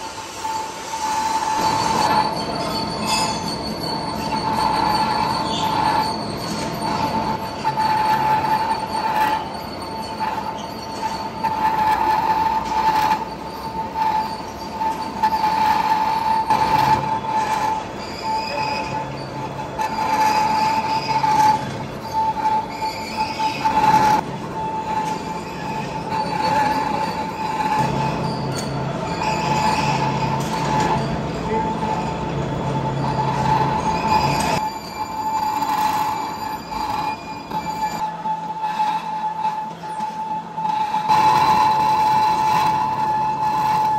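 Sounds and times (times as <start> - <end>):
lathe cutting tool squealing: 0.0 - 43.9
machine grinding noise: 0.0 - 43.9.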